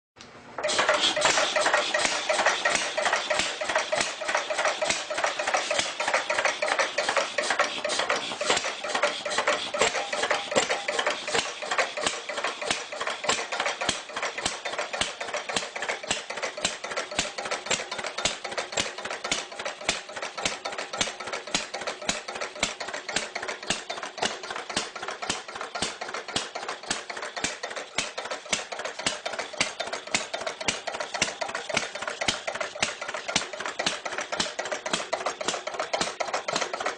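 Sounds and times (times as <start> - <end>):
old engine clattering: 0.6 - 36.9.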